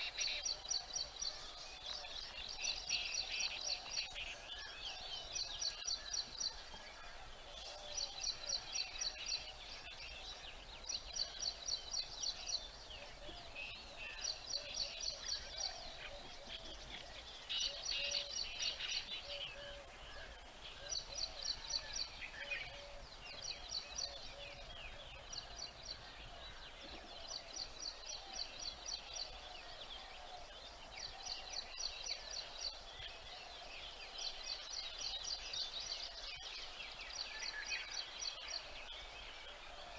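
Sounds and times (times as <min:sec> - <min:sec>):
outdoor background noise: 0:00.0 - 0:39.9.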